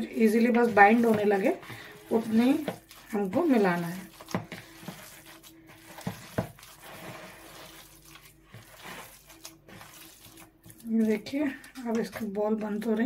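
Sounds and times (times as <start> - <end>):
hand squishing wet mixture: 0.0 - 13.0.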